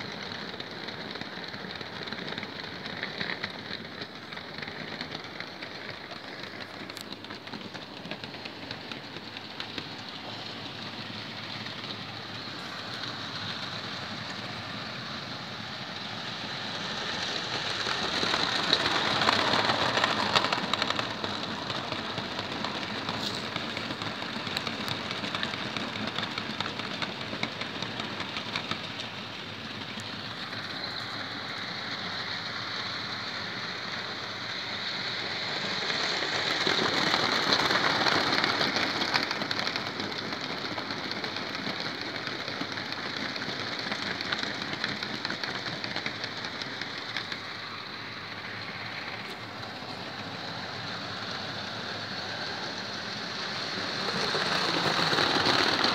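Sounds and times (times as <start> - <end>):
model train wheels clattering: 0.0 - 55.9.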